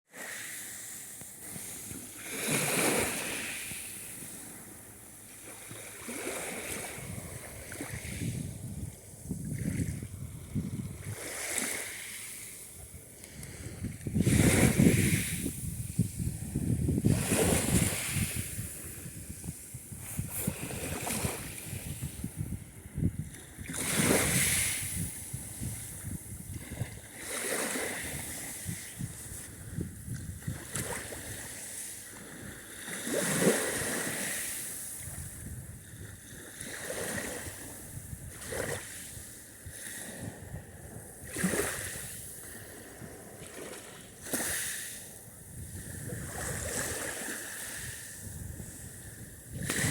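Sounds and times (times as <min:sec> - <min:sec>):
waves washing in and splashing: 0:00.1 - 0:49.9.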